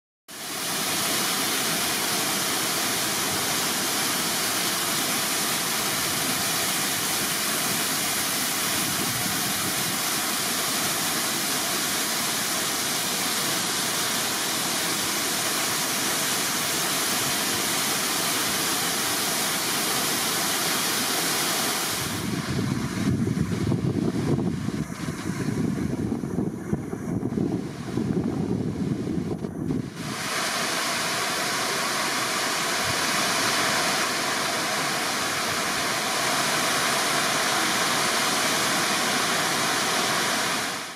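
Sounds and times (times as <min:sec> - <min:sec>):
water pouring down dam spillway: 0:00.3 - 0:40.9.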